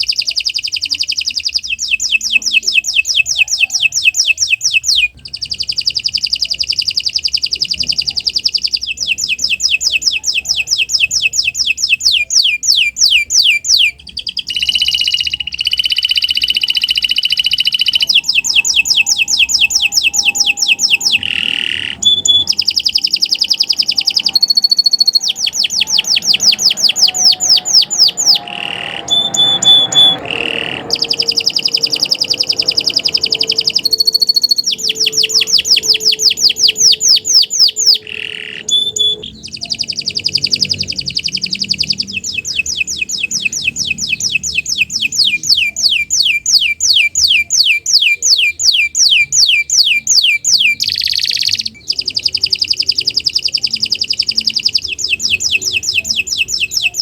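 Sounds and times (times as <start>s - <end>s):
canary singing rapid trills: 0.0s - 57.0s.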